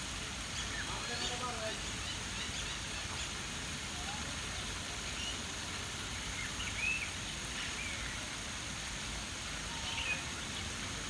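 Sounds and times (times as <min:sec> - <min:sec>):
stream water over rocks: 0:00.0 - 0:11.0.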